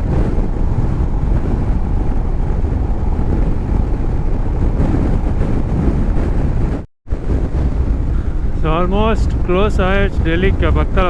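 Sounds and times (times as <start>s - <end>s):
road and motorcycle noise: 0.0s - 11.0s
wind buffeting microphone: 0.0s - 11.0s.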